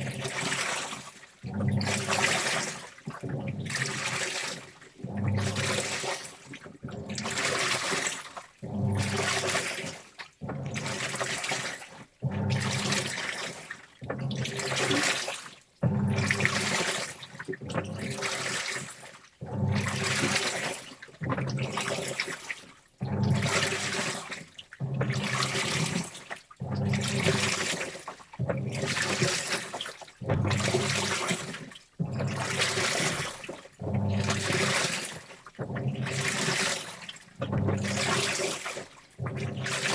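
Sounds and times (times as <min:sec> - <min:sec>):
washing machine motor hum: 0:00.0 - 0:22.3, 0:23.0 - 0:39.9
water and wet clothes sloshing: 0:00.0 - 0:39.9.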